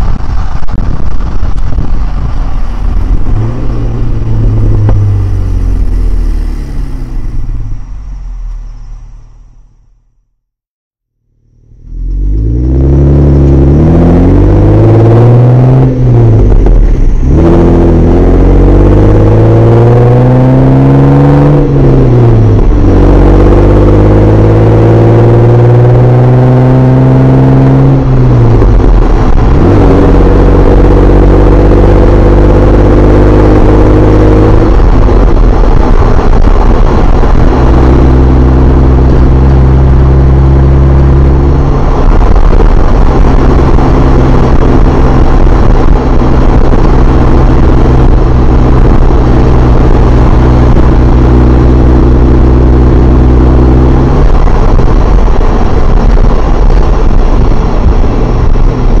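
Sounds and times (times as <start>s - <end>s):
car engine running: 0.0s - 10.4s, 11.1s - 59.0s.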